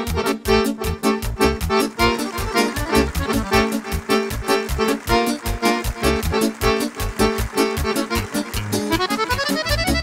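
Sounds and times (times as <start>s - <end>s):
accordion melody: 0.0s - 10.0s
keyboard accompaniment: 0.0s - 10.0s
fast bass beat: 1.2s - 10.0s.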